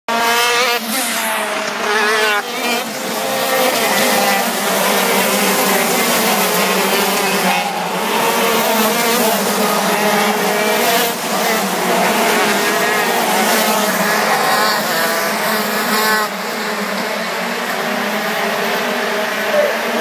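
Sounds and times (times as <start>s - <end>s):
racing kart engines: 0.1s - 20.0s.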